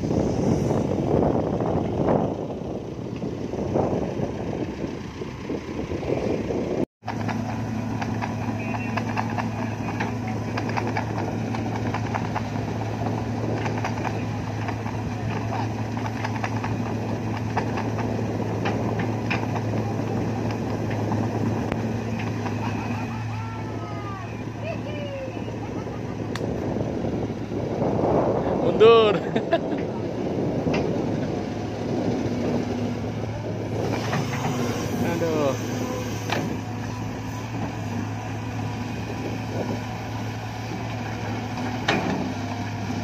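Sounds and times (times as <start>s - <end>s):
wind buffeting microphone: 0.0s - 7.5s, 9.3s - 43.0s
diesel engine running: 0.0s - 43.0s.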